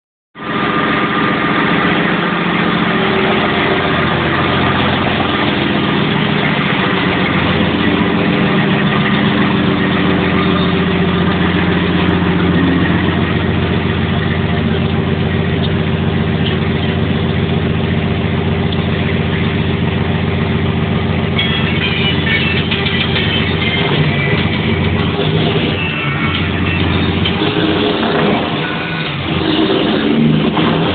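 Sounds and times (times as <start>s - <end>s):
truck engine idling: 0.4s - 30.9s.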